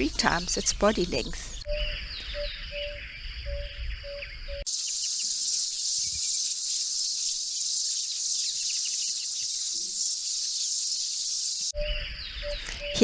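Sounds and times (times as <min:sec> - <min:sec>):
faint chirps: 0:01.5 - 0:13.0
insects buzzing: 0:01.7 - 0:13.0.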